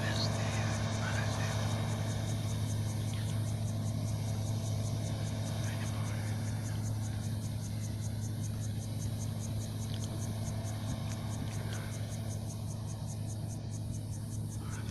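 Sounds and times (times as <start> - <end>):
combine harvester engine drone: 0.0 - 14.9.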